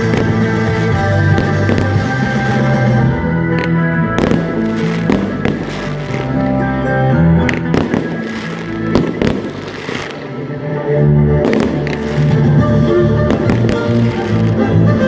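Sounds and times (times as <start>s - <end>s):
fireworks bursting: 0.0s - 6.8s, 7.4s - 10.6s, 11.4s - 15.0s
music: 0.0s - 15.0s.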